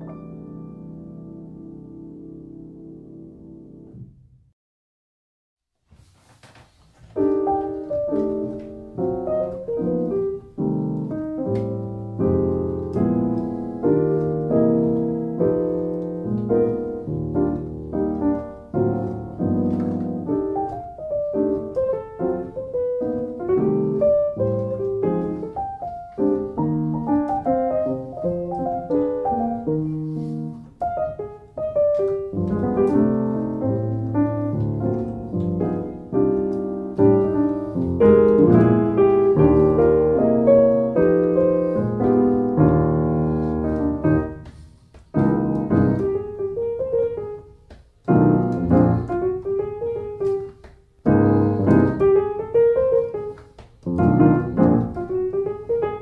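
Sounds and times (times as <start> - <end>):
piano playing chords and melody: 0.0 - 4.1, 7.1 - 56.0.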